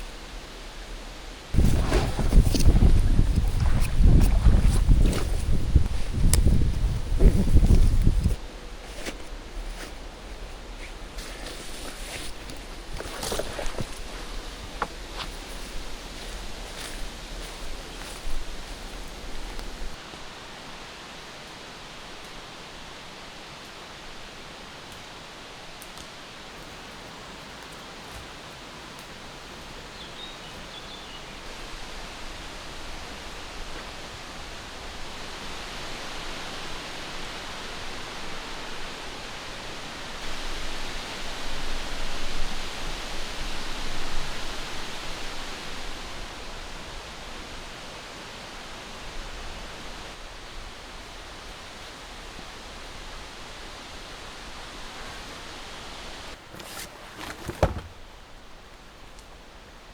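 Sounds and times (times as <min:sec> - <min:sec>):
strong wind through trees: 0:00.0 - 0:56.6.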